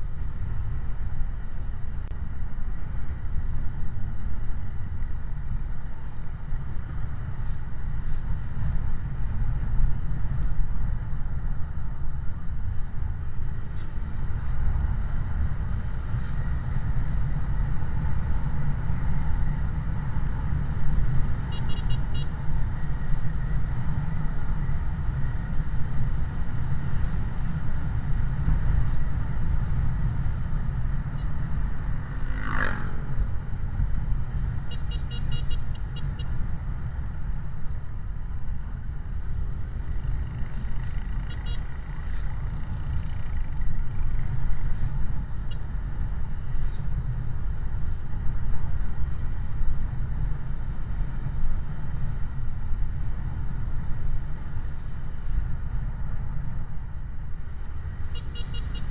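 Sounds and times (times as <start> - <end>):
vehicle road and wind rumble: 0.0 - 58.9.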